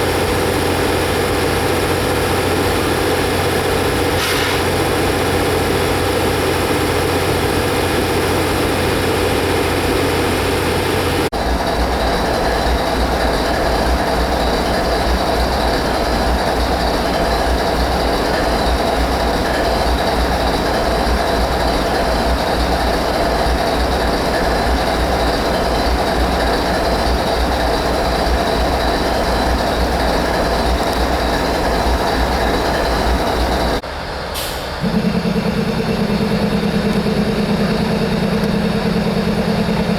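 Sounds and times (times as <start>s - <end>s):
train running on rails: 0.0s - 39.9s.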